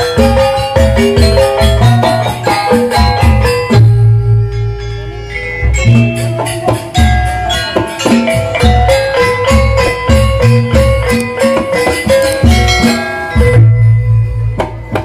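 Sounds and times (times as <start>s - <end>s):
drum: 0.0s - 4.5s, 5.7s - 15.0s
metallophones ringing melody: 0.0s - 15.0s.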